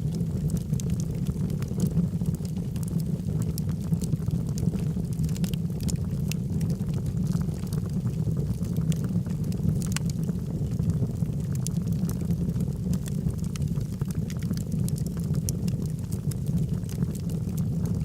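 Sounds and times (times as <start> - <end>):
fire rumbling in fireplace: 0.0 - 18.0
wood crackling and popping: 0.0 - 18.0.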